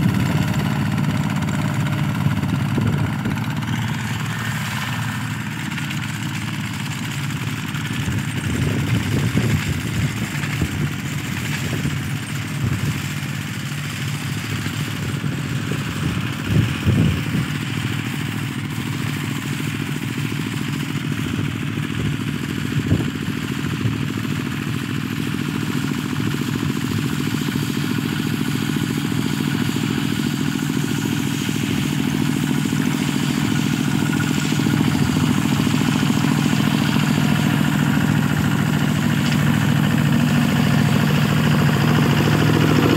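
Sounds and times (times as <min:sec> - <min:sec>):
walking tractor engines running: 0:00.0 - 0:42.9.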